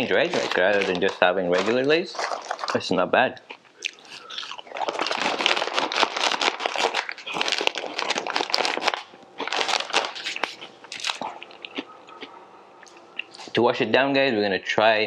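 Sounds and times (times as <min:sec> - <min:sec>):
chip bag crinkling: 0:00.0 - 0:13.6.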